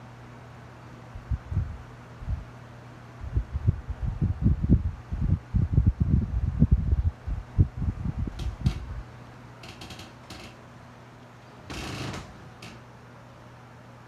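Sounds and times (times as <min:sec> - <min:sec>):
electric fan humming: 0:00.0 - 0:14.0
fan airflow buffeting microphone: 0:00.0 - 0:14.0.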